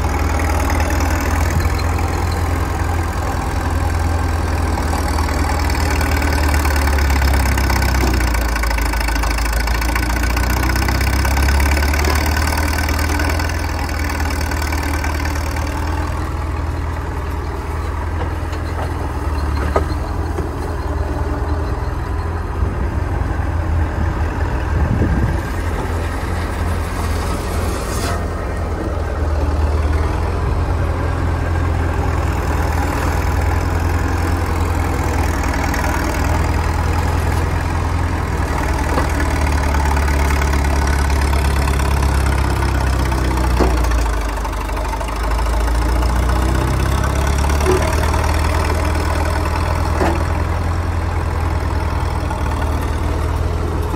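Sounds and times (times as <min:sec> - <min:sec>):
power shovel engine running: 0:00.0 - 0:53.9.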